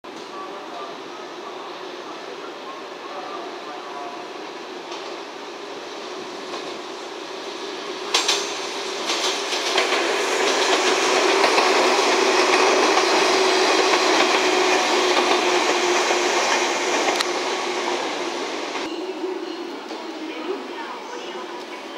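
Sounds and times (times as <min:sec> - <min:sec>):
train wheels rumbling on track: 0:03.4 - 0:21.9.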